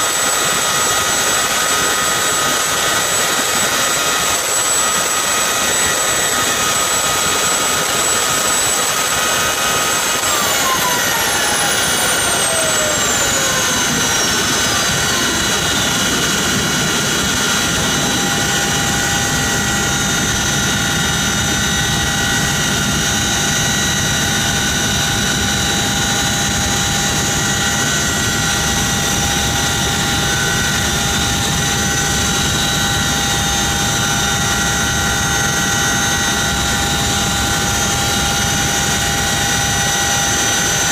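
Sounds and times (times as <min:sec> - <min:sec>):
turbine engine whine: 0:00.0 - 0:40.9.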